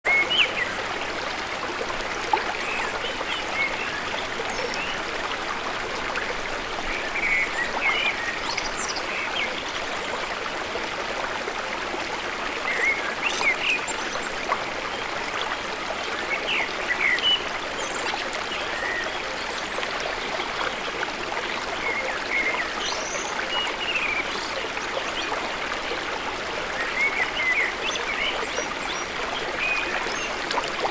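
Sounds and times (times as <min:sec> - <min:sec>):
stream running water: 0:00.0 - 0:30.9.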